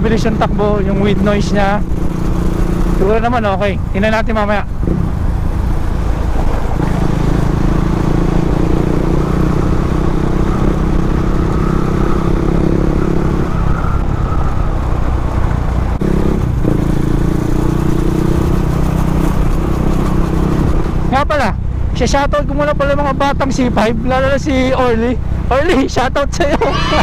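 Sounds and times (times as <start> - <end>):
motorcycle engine running: 0.0 - 13.2, 15.2 - 25.6.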